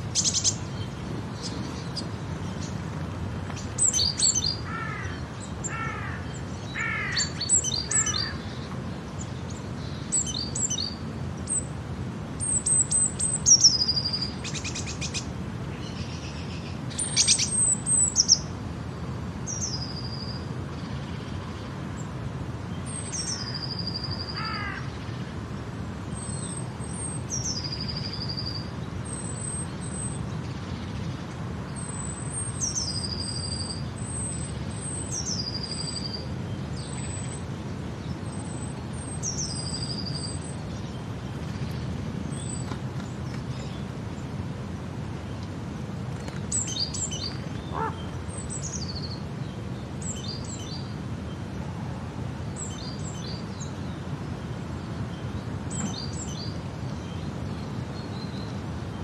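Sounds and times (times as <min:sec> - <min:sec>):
wild birds singing and calling: 0:00.0 - 0:11.8, 0:12.4 - 0:18.6, 0:19.3 - 0:59.0.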